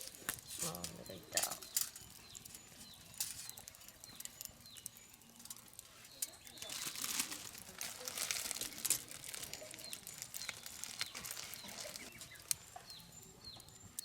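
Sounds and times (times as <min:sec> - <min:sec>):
bird chirping: 0:00.0 - 0:14.0
campfire crackling and popping: 0:00.0 - 0:14.0.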